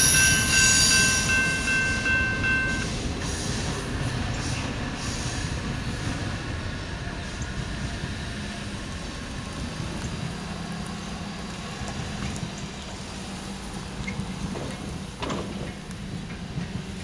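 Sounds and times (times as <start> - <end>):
freight train rumbling: 0.0 - 17.0
vehicles crossing railroad crossing: 0.0 - 17.0.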